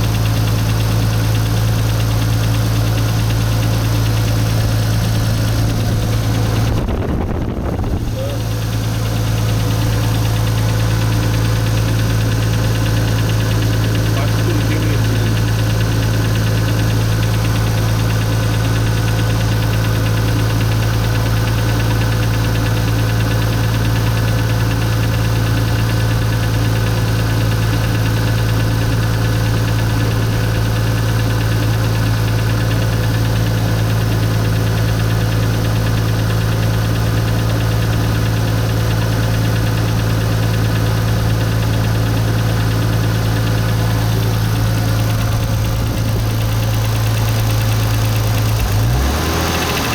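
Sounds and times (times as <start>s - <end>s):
car engine idling with ticking: 0.0s - 49.9s.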